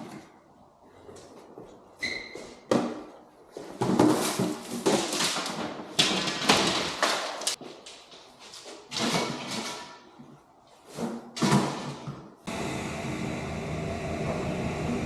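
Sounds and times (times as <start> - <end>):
junk and boxes being handled: 0.0 - 12.3.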